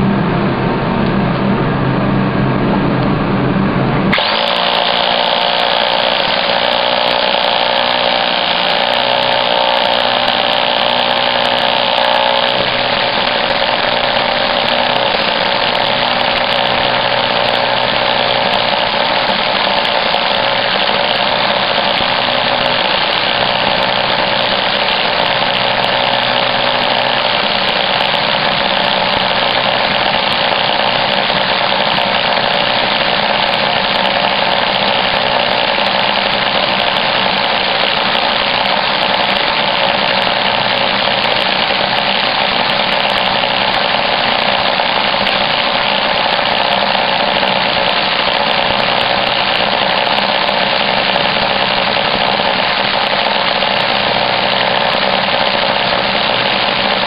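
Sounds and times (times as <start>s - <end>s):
hammer drill boring into concrete: 4.1s - 57.0s.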